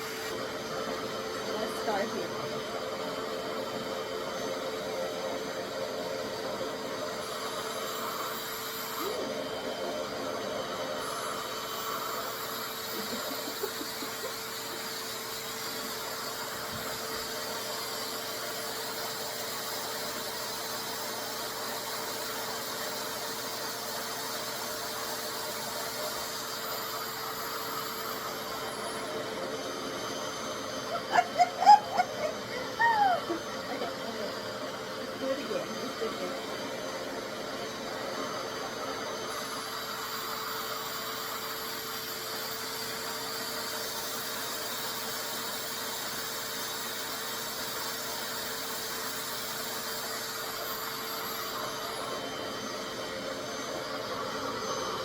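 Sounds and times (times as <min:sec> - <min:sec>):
hair dryer rushing air and hum: 0:00.0 - 0:55.0.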